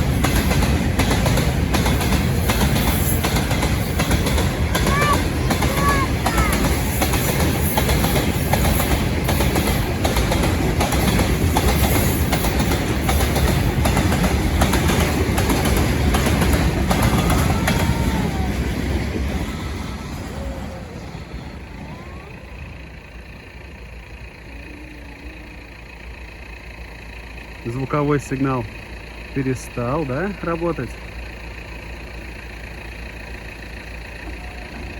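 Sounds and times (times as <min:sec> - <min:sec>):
train rumble: 0:00.0 - 0:34.9
wheels clattering on rails: 0:00.0 - 0:34.9.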